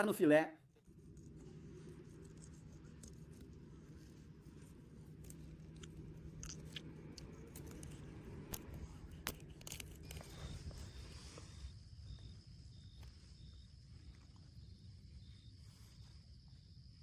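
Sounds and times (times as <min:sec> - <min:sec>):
insect trilling: 0:00.9 - 0:17.0.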